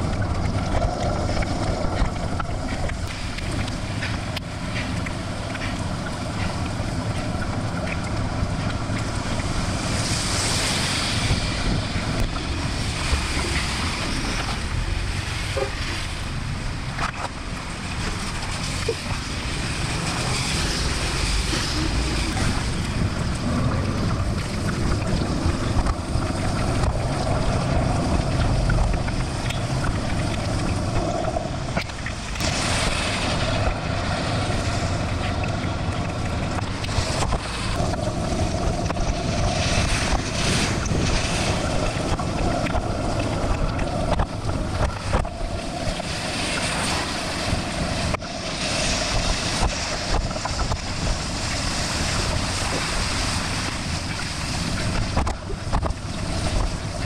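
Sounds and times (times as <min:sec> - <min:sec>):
bicycle tyres hissing through water: 0:00.0 - 0:57.0
wind buffeting microphone: 0:00.0 - 0:57.0.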